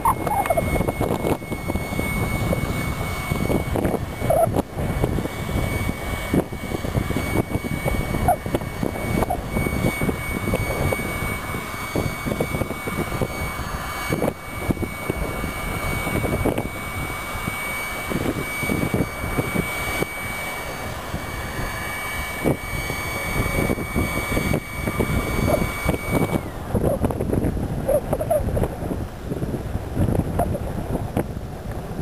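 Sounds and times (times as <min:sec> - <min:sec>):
compressor whining: 0:00.0 - 0:32.0
rough machinery rumble: 0:00.0 - 0:32.0.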